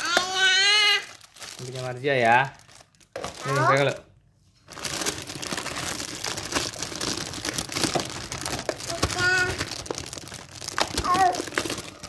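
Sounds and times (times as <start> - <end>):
plastic bag crinkling: 0.0 - 4.0, 4.6 - 12.0.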